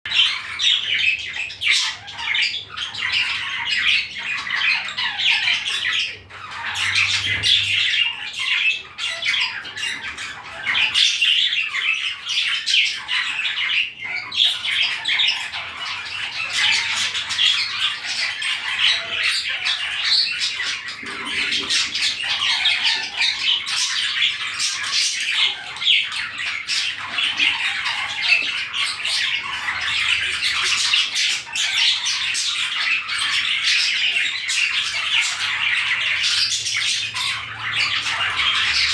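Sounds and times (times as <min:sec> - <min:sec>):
budgerigars chattering: 0:00.1 - 0:38.9.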